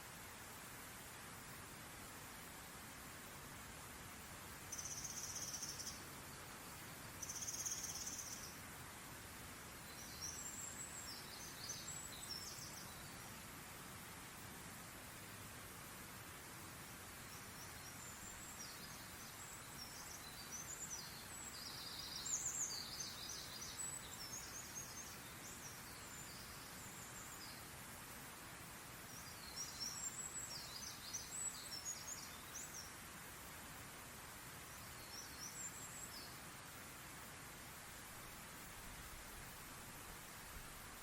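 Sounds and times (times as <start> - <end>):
steady background hiss: 0.0 - 41.0
songbirds chirping: 0.1 - 41.0.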